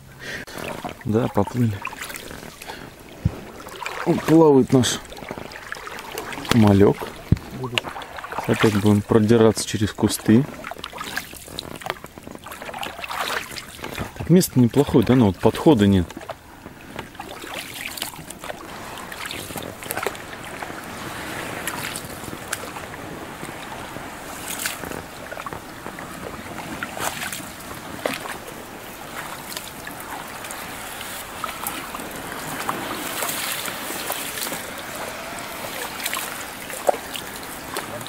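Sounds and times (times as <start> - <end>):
boat knocking and rustling in reeds: 0.0 - 38.0
paddle splashing in water: 0.0 - 38.0.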